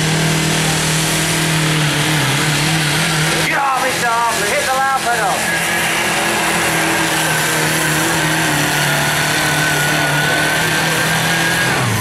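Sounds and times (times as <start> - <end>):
diesel tractor engine under load: 0.0 - 12.0
steady high whine: 0.0 - 12.0.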